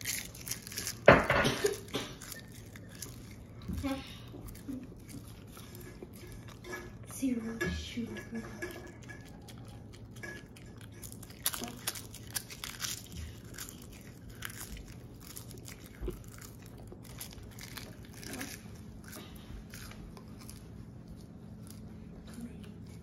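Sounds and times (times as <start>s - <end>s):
crunchy seaweed being chewed: 0.0s - 7.1s, 8.6s - 23.0s.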